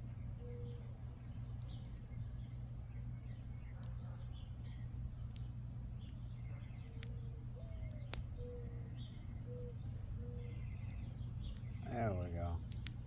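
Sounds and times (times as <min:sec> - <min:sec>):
faint higher bird chirps: 0:00.0 - 0:04.9, 0:06.0 - 0:12.1
bird low single notes: 0:00.0 - 0:12.9
campfire crackling and popping: 0:00.0 - 0:13.0
steady low rumble: 0:00.0 - 0:13.0.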